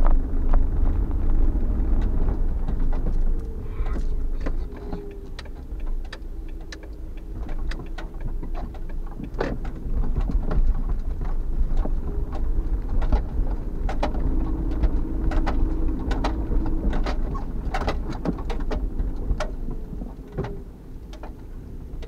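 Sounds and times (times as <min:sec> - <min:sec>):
van engine and road rumble: 0:00.0 - 0:22.0.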